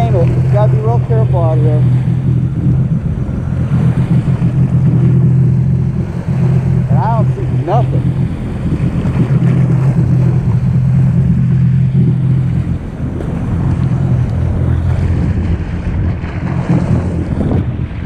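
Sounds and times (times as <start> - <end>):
jet ski engine hum: 0.0 - 18.0
water rushing: 0.0 - 18.0
wind buffeting microphone: 0.0 - 18.0.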